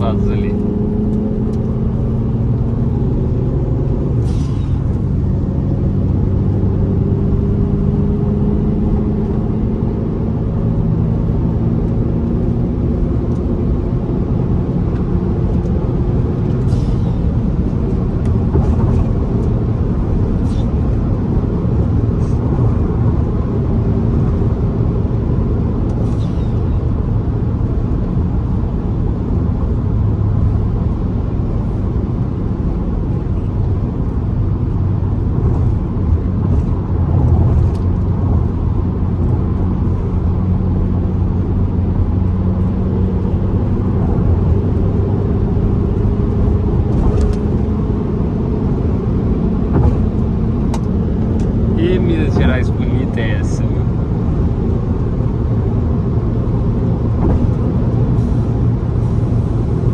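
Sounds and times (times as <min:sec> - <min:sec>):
car engine hum: 0:00.0 - 0:59.9
tyre and road noise: 0:00.0 - 0:59.9.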